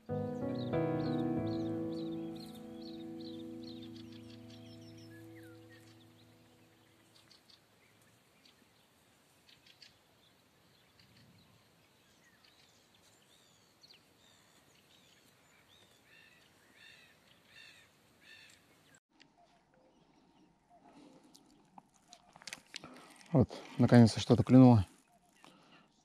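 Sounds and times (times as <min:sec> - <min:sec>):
faint birdsong chirps: 0:00.0 - 0:23.2, 0:24.9 - 0:26.0.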